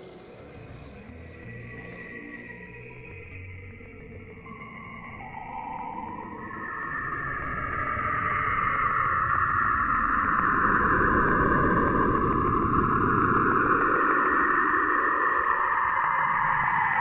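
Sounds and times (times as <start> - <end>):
eerie whooshing drone: 0.0 - 17.0.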